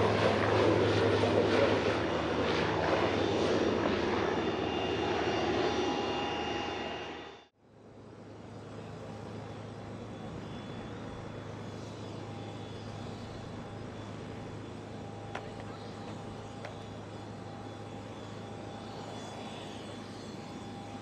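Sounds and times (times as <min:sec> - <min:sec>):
distant jet engine noise: 0:00.0 - 0:21.0.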